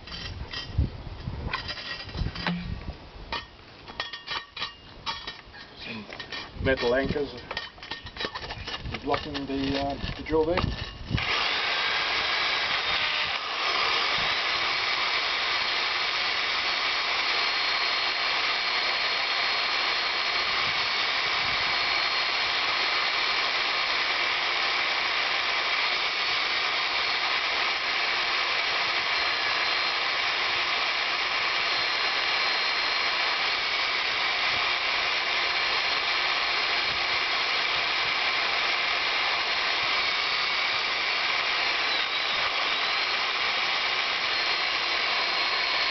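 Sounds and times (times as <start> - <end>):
electric drill drilling into stone: 6.3 - 45.9.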